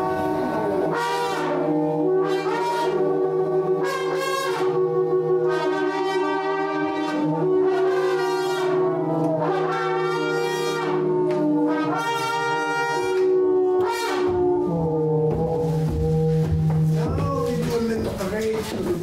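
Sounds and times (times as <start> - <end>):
brass horns playing held notes: 0.0 - 19.0.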